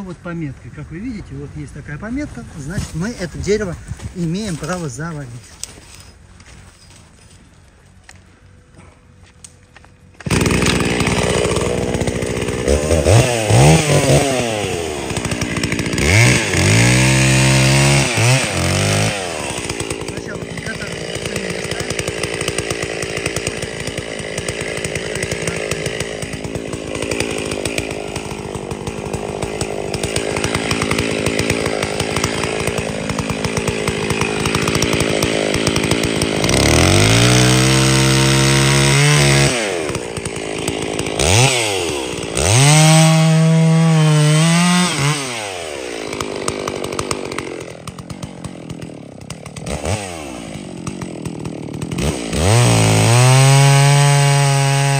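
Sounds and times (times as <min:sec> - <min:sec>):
chainsaw cutting a tree: 0:10.2 - 0:54.9.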